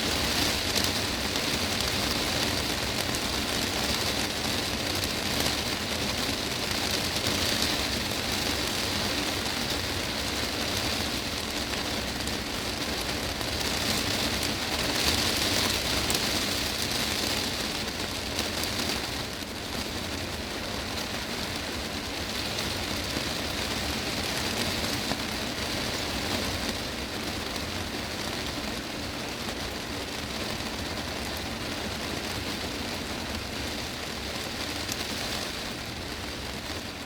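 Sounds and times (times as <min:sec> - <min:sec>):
heavy rain on glass roof: 0:00.0 - 0:37.0.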